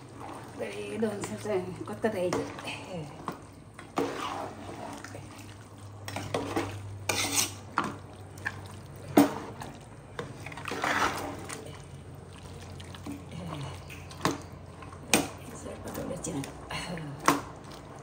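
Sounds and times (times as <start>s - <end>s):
low steady hum: 0.0s - 18.0s
metal spoon stirring in pot: 0.1s - 18.0s.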